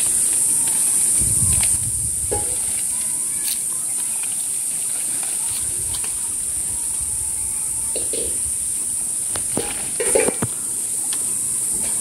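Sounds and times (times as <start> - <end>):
leaves rustling: 0.0 - 12.0
steady high hiss: 0.0 - 12.0.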